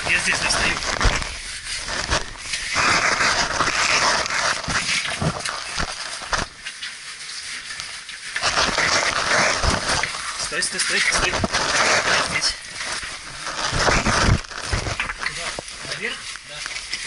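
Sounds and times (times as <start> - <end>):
clothing rustling and scraping on rock: 0.0 - 17.0.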